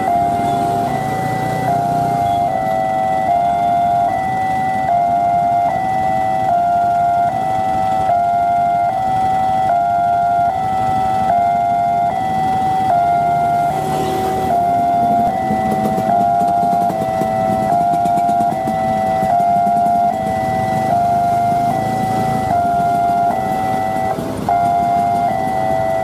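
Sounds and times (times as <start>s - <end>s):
level crossing alarm two-tone warning: 0.0s - 26.0s
traffic noise: 0.0s - 26.0s.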